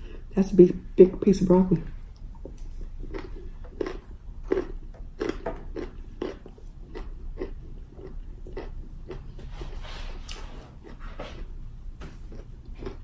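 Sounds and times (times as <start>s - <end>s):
crunchy chewing: 2.1s - 13.0s.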